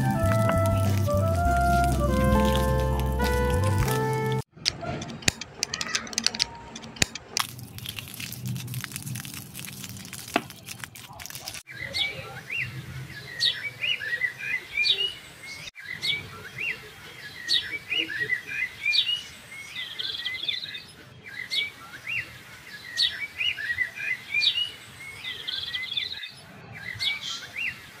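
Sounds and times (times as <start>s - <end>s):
small birds chirping: 5.2s - 28.0s.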